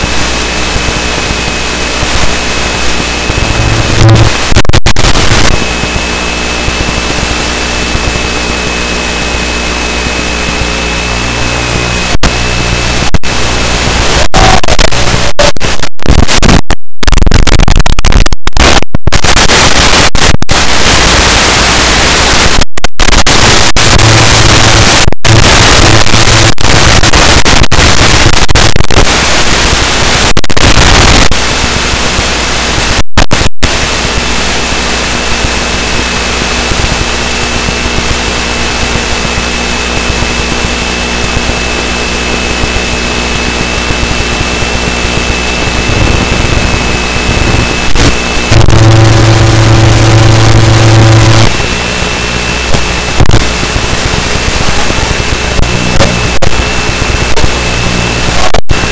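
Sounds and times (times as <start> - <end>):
faint high whine: 0.0 - 58.9
radio static hiss: 0.0 - 58.9.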